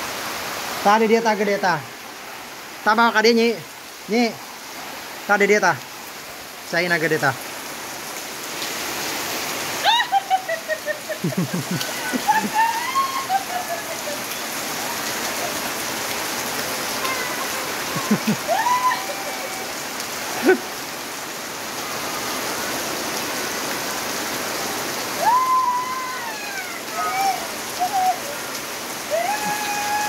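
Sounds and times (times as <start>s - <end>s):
rain falling on grass and roof: 0.0s - 30.0s
water running off roof: 0.0s - 30.0s.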